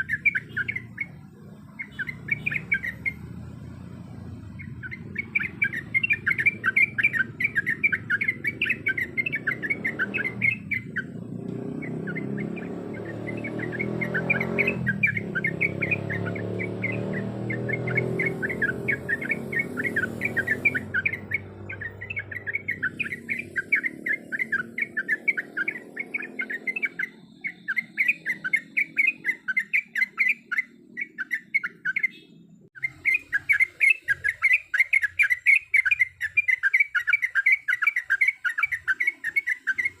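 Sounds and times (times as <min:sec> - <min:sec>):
bird chattering song: 0:00.0 - 0:40.0.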